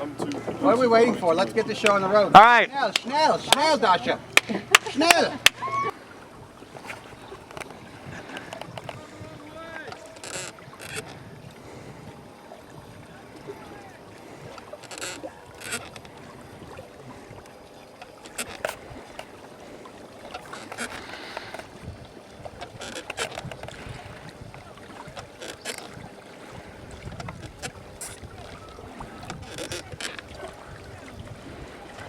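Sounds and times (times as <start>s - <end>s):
water splashing and sloshing: 0.0s - 32.0s.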